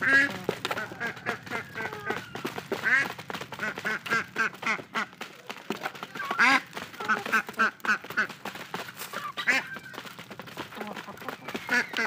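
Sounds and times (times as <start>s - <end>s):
beaks pecking on cardboard: 0.0s - 12.0s
chickens clucking: 0.0s - 12.0s.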